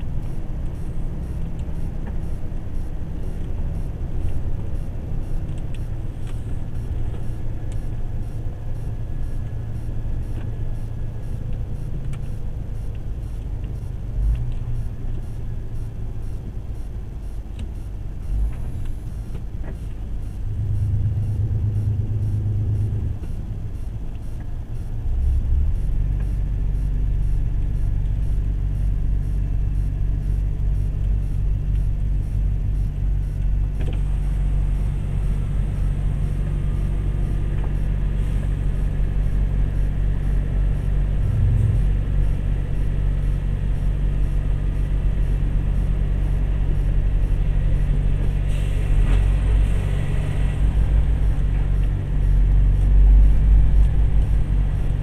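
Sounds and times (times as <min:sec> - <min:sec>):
lorry engine rumble: 0:00.0 - 0:55.0
road noise: 0:00.0 - 0:55.0.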